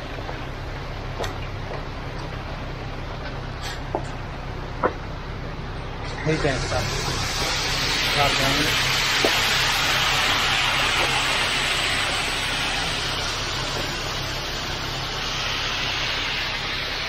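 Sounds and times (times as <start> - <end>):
truck engine hum: 0.0 - 17.0.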